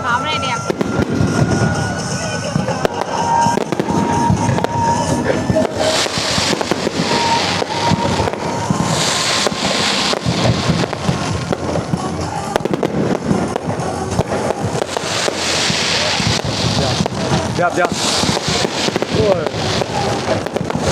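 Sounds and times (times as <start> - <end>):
fireworks booming and crackling: 0.0 - 20.9
hissing crackle: 0.0 - 20.9
music: 0.0 - 20.9.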